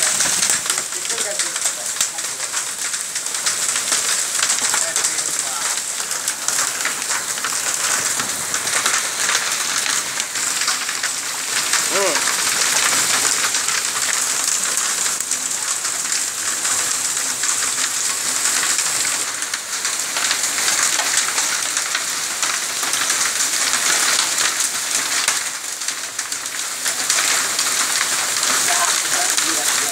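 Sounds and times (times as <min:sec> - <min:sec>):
hail and rain on concrete: 0:00.0 - 0:29.9.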